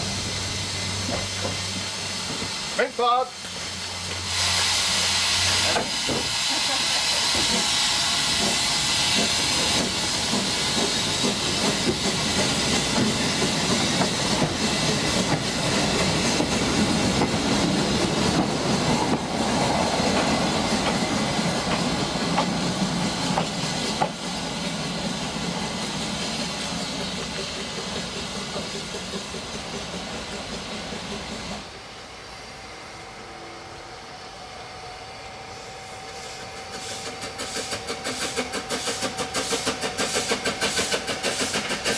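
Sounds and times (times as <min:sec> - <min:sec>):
steam hissing: 0:00.0 - 0:41.9
steam train running: 0:00.0 - 0:41.9.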